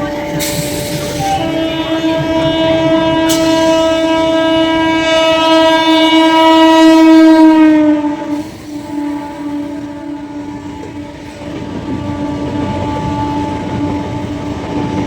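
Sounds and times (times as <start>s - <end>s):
train horn blast: 0.0s - 15.0s.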